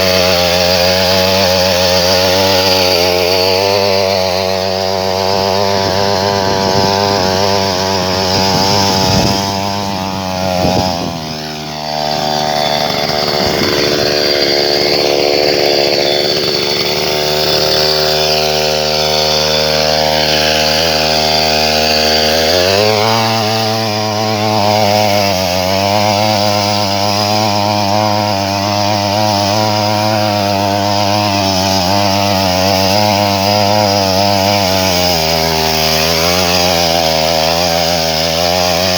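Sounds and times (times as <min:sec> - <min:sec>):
small two-stroke engine running: 0:00.0 - 0:38.9.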